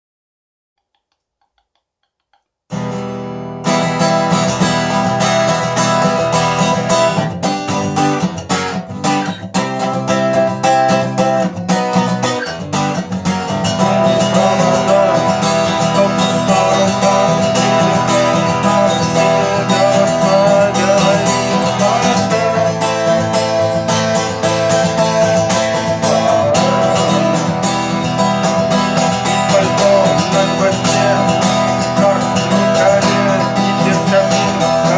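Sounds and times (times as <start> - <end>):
guitar music: 2.7 - 34.9.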